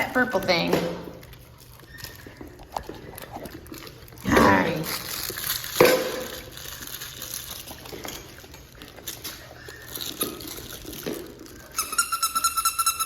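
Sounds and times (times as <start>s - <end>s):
puppies playing with toys: 0.0s - 13.0s.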